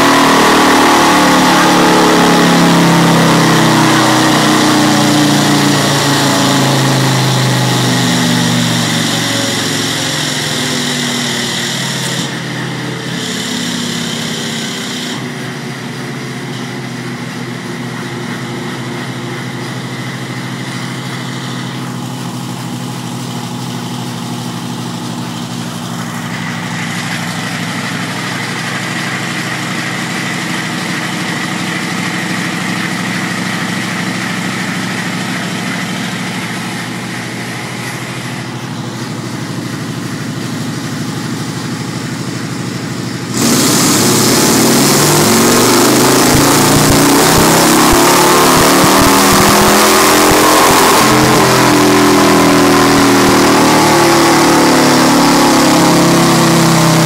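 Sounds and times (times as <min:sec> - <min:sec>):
motorcycle engine on dyno: 0:00.0 - 0:57.0.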